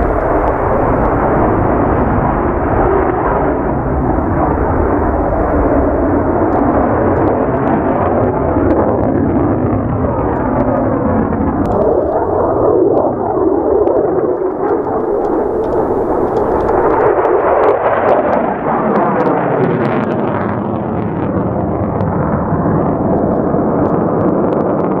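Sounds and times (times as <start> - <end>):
faint crackle: 0.0 - 9.2, 10.1 - 18.4, 21.8 - 25.0
fighter jet engine roar: 0.0 - 25.0.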